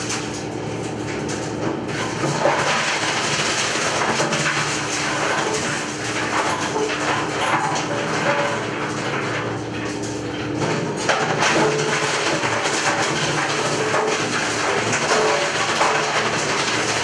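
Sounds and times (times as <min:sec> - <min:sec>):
bone-crushing mill running: 0:00.0 - 0:17.0.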